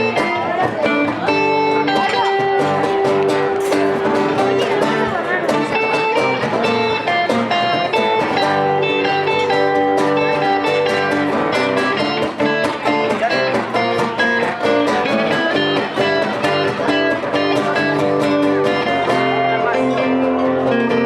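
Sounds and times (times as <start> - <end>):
guitar playing a tune: 0.0 - 21.0.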